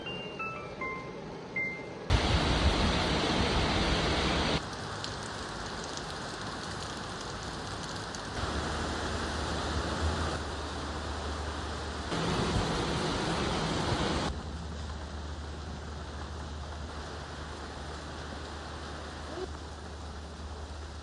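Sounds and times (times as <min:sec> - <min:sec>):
rain falling: 0:02.1 - 0:21.0.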